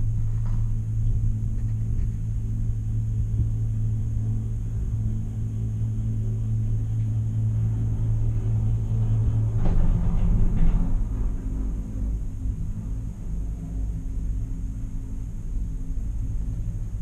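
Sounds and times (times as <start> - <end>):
gondola cabin hum and rumble: 0.0 - 17.0.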